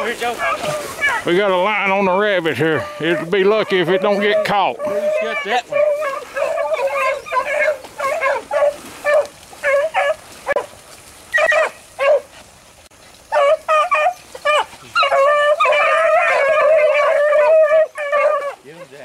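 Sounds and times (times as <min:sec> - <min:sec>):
hounds barking and baying: 0:00.0 - 0:19.0.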